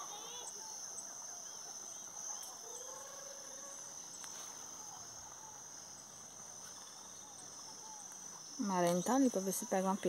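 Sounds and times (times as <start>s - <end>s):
faint bird chirps: 0.0s - 10.0s
insects chorus: 0.0s - 10.0s.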